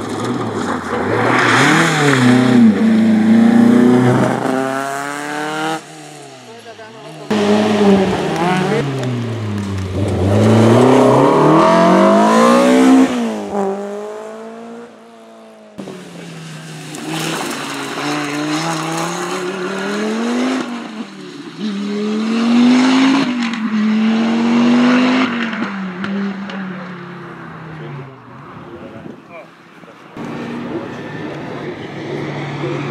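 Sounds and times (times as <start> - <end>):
rally car engine shifting gears: 0.0 - 5.9, 7.0 - 29.2
rally car engine revving: 0.0 - 29.2.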